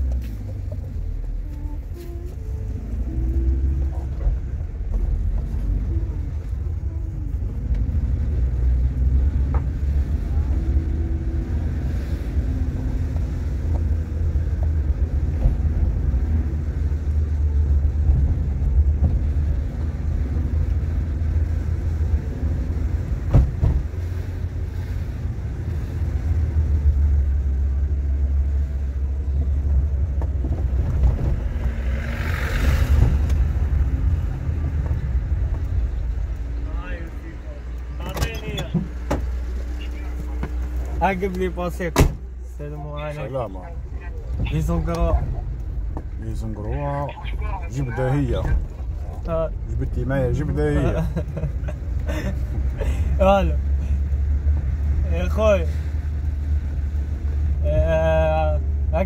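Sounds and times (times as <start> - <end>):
road and engine rumble: 0.0 - 59.0.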